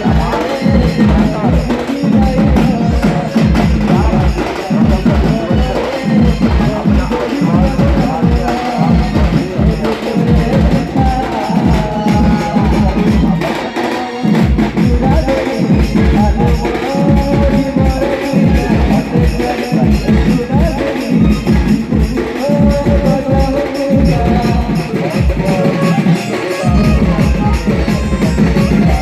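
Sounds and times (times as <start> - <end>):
fast dense drumming: 0.0 - 29.0.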